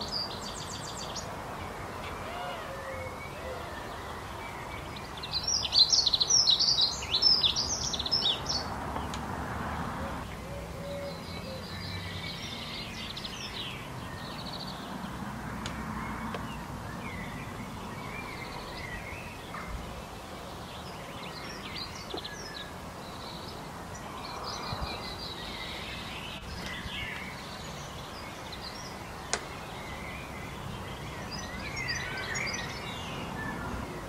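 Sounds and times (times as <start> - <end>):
small birds chirping: 0.0 - 9.3, 10.1 - 34.0.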